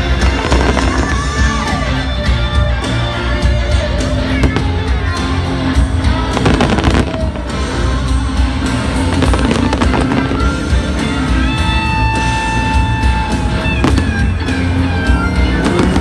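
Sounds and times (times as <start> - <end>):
fireworks popping and crackling: 0.0 - 16.0
music over loudspeakers: 0.0 - 16.0.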